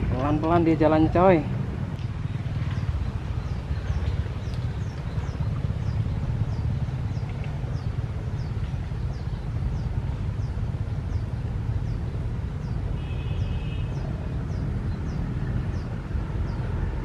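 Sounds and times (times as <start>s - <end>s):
steady low rumble: 0.0s - 13.0s, 14.0s - 17.0s.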